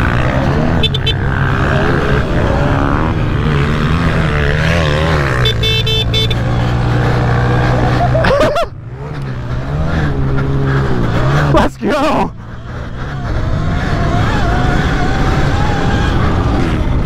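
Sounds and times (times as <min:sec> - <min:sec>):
dirt bike motors: 0:00.0 - 0:17.0.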